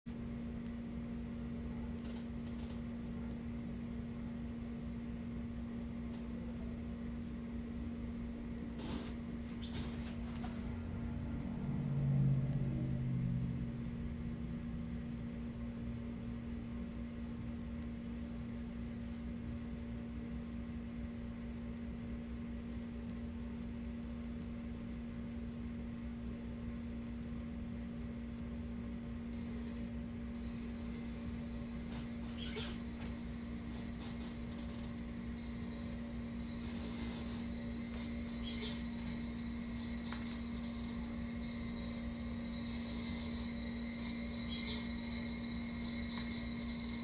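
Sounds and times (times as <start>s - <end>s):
refrigerator humming: 0.1s - 47.0s.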